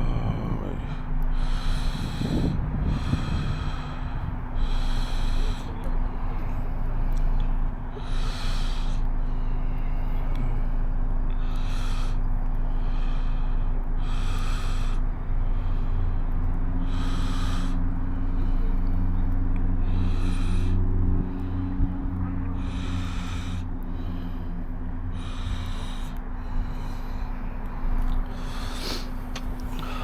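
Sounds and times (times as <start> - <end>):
heavy breathing: 0.0 - 30.0
low engine hum: 0.0 - 30.0.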